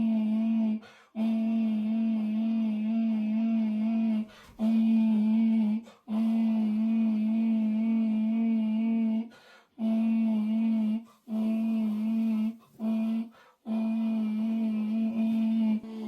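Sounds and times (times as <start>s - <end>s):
person humming low note: 0.0s - 16.0s.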